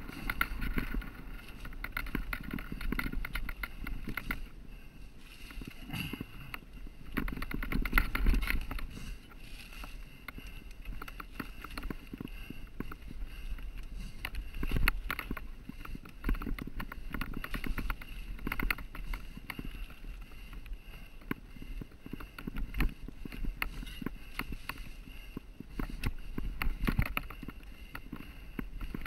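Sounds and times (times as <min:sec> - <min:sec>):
bike rattling and knocking: 0:00.0 - 0:29.0
bike tyres rumbling over stones: 0:00.0 - 0:29.0.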